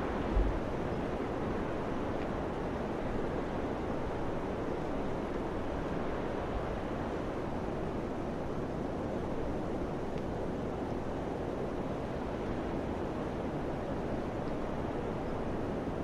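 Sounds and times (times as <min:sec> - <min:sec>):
steady wind noise: 0:00.0 - 0:16.0.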